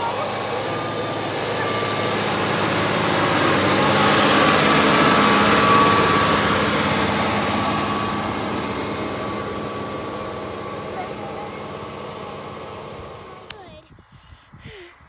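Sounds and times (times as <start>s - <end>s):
tractor diesel engine under load: 0.0s - 13.8s.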